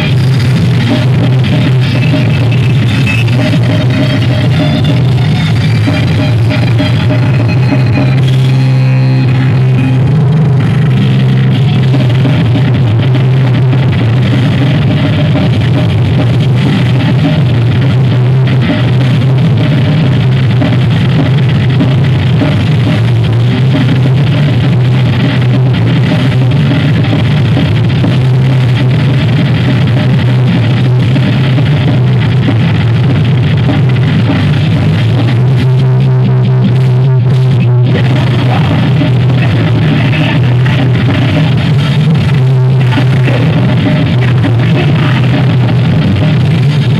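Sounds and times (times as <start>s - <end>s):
bass guitar: 0.0s - 46.9s
distorted electric guitar: 0.0s - 46.9s
drum kit: 0.0s - 46.9s.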